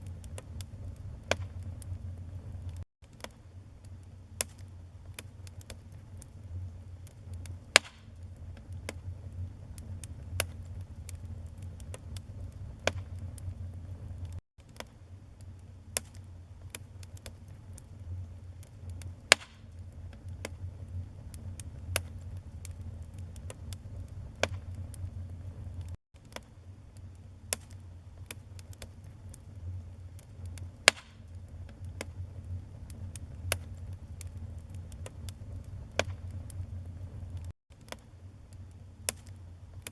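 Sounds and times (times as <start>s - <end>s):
fire rumbling: 0.0s - 2.8s, 3.6s - 14.4s, 15.2s - 26.0s, 26.6s - 39.9s
wood fire crackling and popping: 0.0s - 39.9s.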